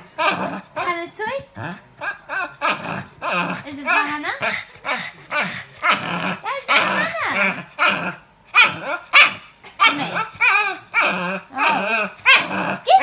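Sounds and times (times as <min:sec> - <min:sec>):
dog making strange vocal calls: 0:00.2 - 0:13.0.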